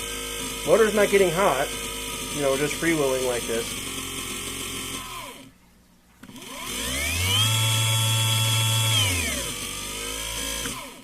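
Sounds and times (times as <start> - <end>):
electric motor whine: 0.0 - 5.5, 6.2 - 11.0.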